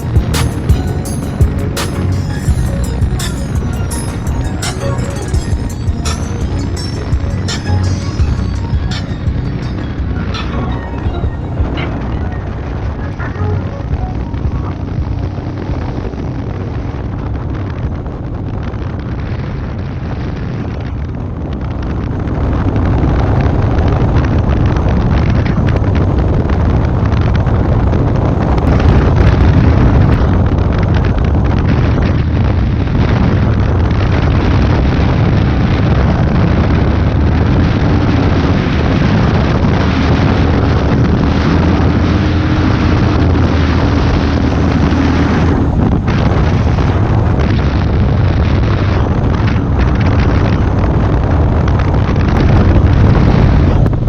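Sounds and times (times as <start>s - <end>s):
wind buffeting microphone: 8.2s - 54.0s.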